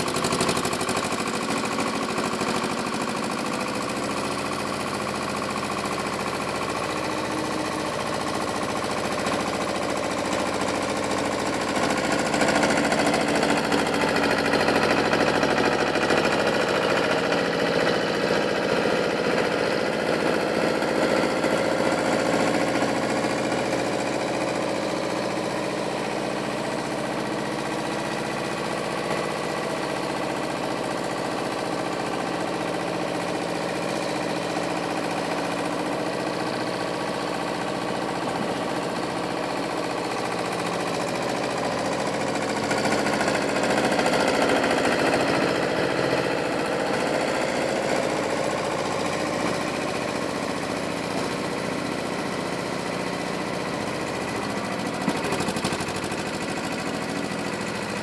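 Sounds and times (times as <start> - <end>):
diesel engine clattering: 0.0 - 58.0.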